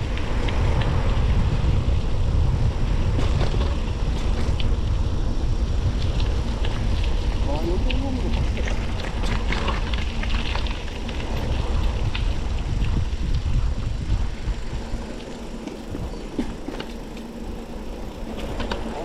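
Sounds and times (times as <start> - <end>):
tyres crunching on gravel: 0.0 - 13.3, 14.2 - 19.0
bike clicks and rattles: 0.0 - 19.0
wind buffeting microphone: 0.0 - 19.0.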